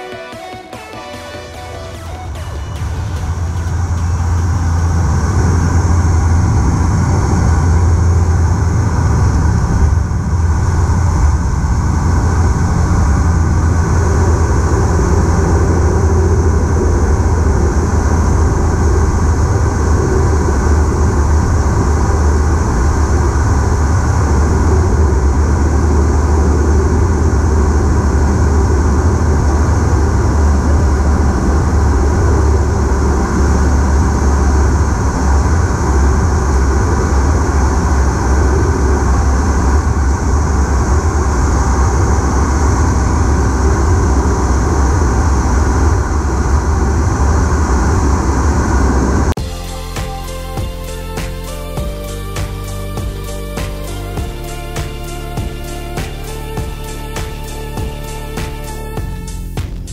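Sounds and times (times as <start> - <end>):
engine and airflow noise: 1.5 - 59.9
propeller drone: 1.5 - 59.9.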